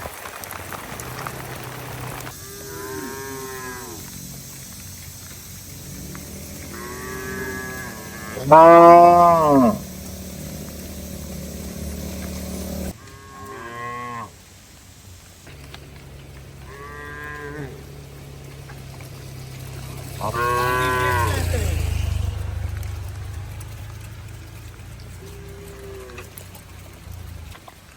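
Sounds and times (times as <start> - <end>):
cattle mooing: 1.2 - 14.3, 15.6 - 27.2.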